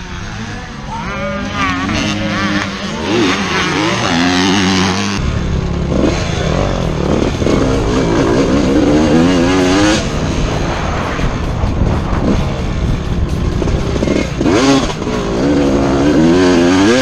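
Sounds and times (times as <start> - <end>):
deeper louder engine: 0.0 - 17.0
dirt bike engines revving: 0.0 - 17.0.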